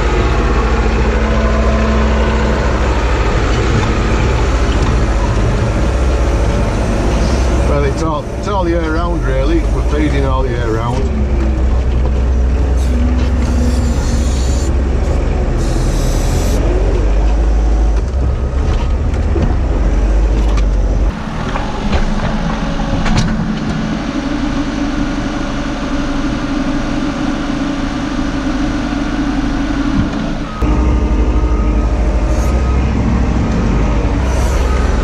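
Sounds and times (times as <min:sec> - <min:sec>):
high whine: 0:00.0 - 0:18.5, 0:19.4 - 0:35.0
diesel engine drone: 0:00.0 - 0:35.0.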